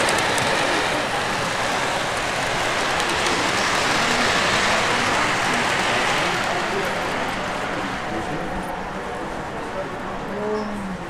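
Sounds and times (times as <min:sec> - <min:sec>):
model train wheels rumbling on rail: 0:00.0 - 0:11.0.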